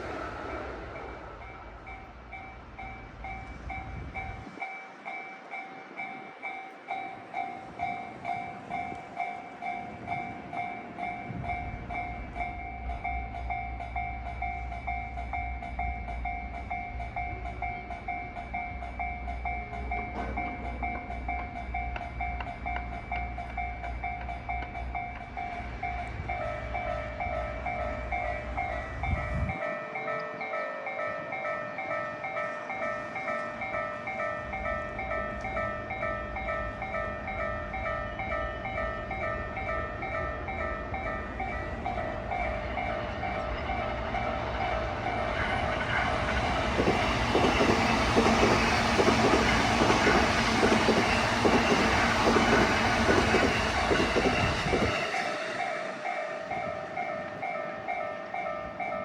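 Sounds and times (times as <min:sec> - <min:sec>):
electric train rumbling: 0:00.0 - 0:59.0
level-crossing alarm bell: 0:00.8 - 0:59.0.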